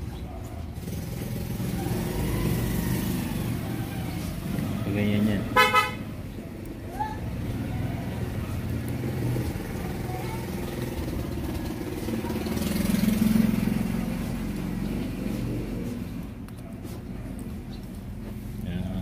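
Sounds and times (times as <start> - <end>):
vehicle engines running: 0.0 - 19.0
vehicle passing: 0.0 - 19.0.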